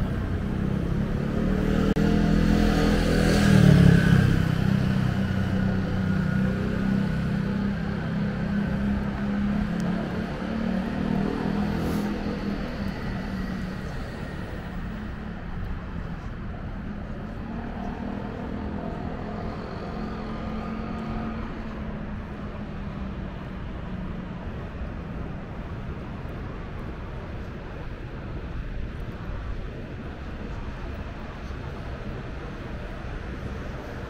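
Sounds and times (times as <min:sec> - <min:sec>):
city noise: 0:00.0 - 0:34.0.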